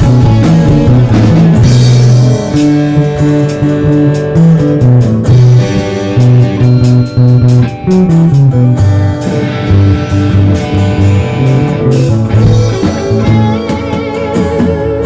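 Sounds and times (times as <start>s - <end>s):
bass guitar: 0.0s - 15.0s
drum kit hits: 0.0s - 15.0s
electric guitar riff: 0.0s - 15.0s.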